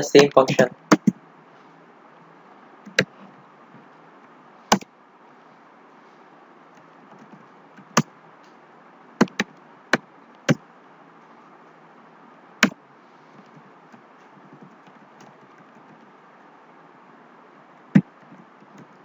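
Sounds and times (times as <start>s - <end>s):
low hiss: 0.0s - 19.0s.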